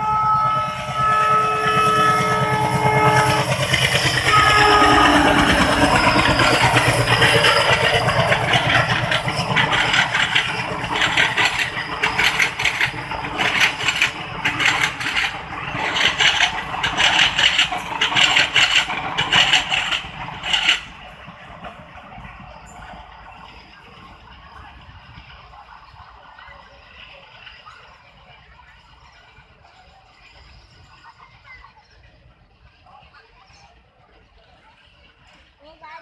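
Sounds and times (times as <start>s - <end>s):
train coaches rushing past: 0.0s - 36.0s
wheels clattering over rail joints: 1.3s - 31.6s.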